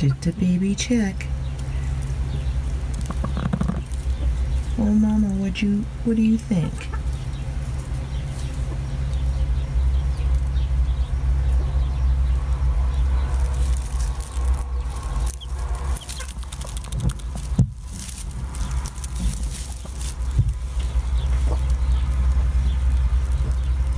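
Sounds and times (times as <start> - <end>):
hen clucking: 0.0 - 23.9
low rumble: 0.0 - 23.9.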